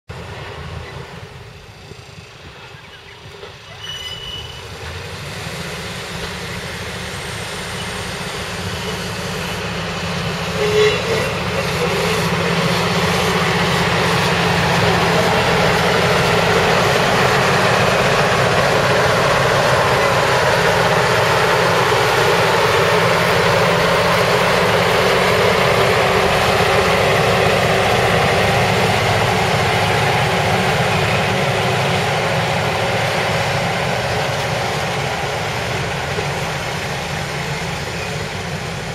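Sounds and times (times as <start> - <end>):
diesel railcar engines running: 0.1 - 38.9.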